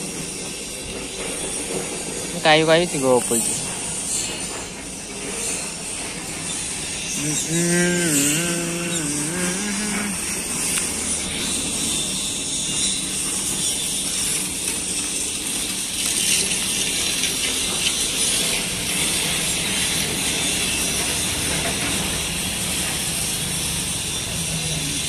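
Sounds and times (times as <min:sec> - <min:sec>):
street noise: 0:00.0 - 0:25.0.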